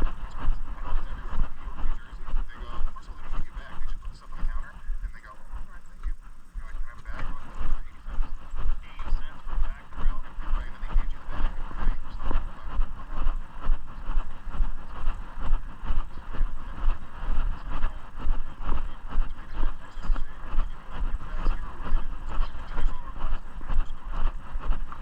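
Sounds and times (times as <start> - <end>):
low rumble on microphone: 0.0 - 25.0.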